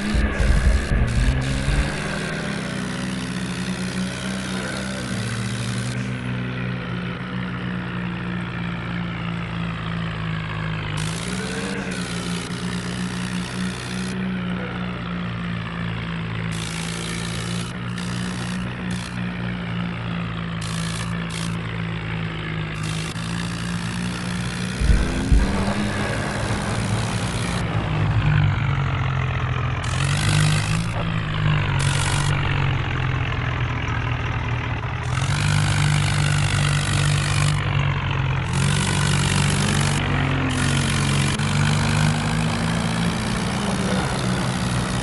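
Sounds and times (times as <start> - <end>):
toy tractor engine drone: 0.0 - 45.0.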